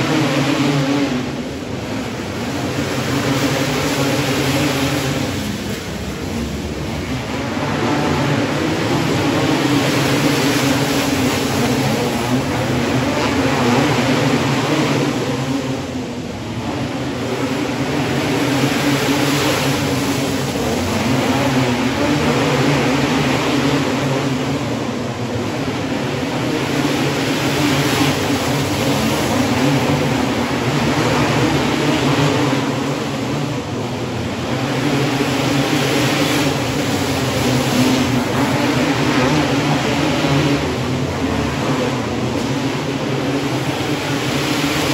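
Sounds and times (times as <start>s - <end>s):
kart engines racing: 0.0s - 44.9s.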